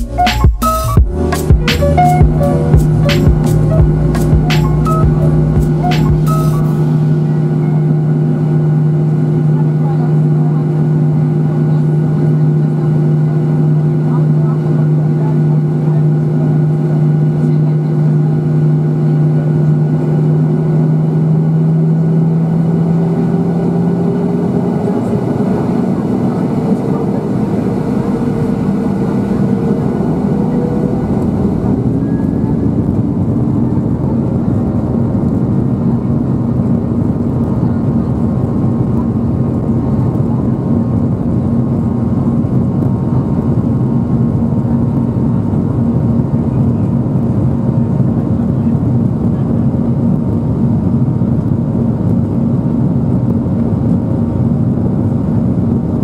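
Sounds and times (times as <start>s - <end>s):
jet engines humming: 0.0s - 56.0s.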